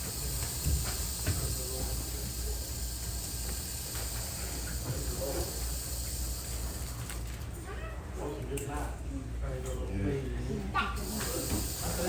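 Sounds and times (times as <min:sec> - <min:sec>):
steady hiss and low hum: 0:00.0 - 0:12.0.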